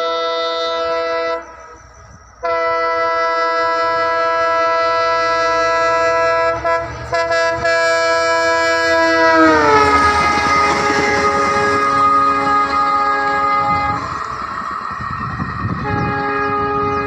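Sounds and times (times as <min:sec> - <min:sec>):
locomotive air horn: 0:00.0 - 0:17.0
train rumble: 0:00.0 - 0:17.0.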